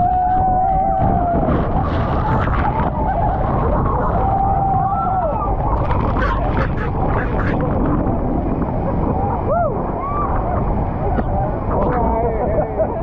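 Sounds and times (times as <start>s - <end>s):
people screaming: 0.0s - 7.5s, 9.0s - 13.0s.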